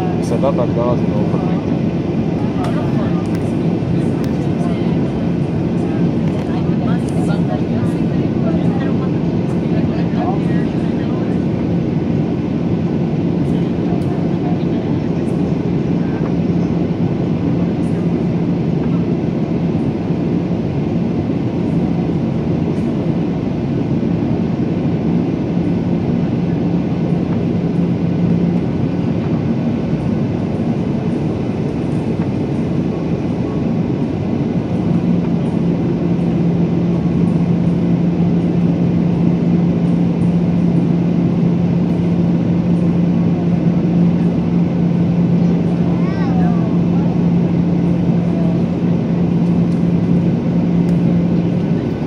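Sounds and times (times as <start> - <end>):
jet engine drone: 0.0 - 52.0
low engine hum: 0.0 - 52.0.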